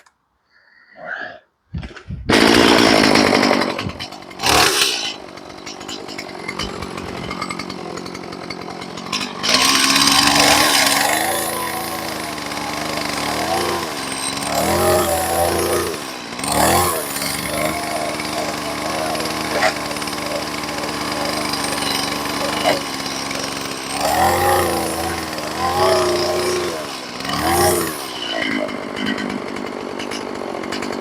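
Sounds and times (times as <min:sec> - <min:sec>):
chainsaw running at varying revs: 0:02.3 - 0:31.0.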